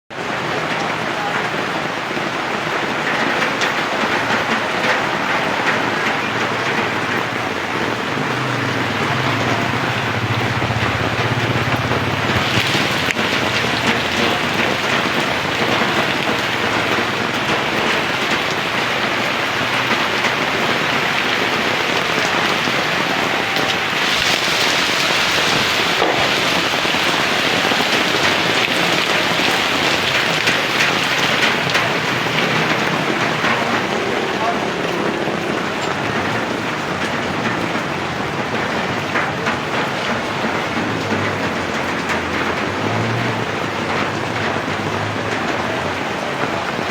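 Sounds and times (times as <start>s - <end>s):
heavy rain falling: 0.1s - 46.9s.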